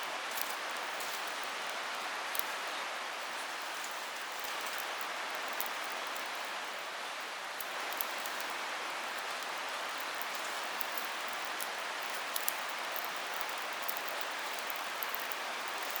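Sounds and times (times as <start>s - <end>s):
campfire crackling: 3.2s - 16.0s.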